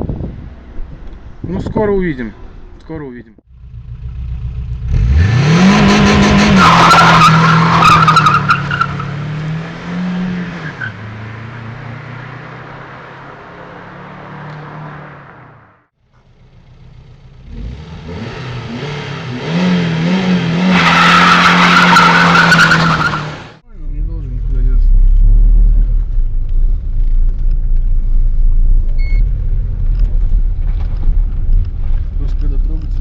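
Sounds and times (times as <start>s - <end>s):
car engine revving: 3.6s - 15.9s, 17.2s - 33.0s.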